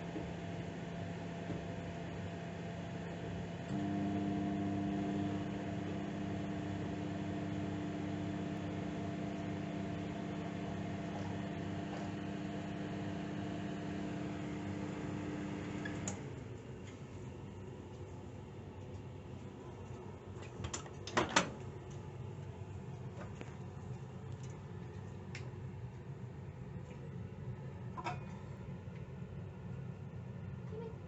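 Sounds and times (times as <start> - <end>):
microwave oven humming: 0.0 - 31.0.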